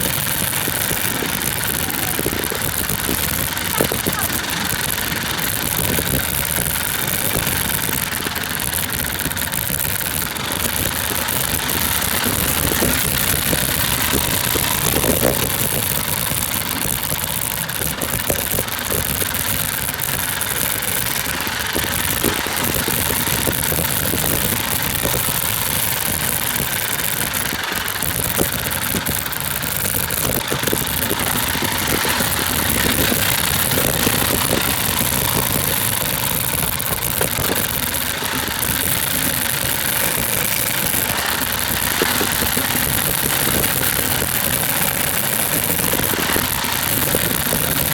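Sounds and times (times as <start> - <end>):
scooter engine running: 0.0 - 47.9.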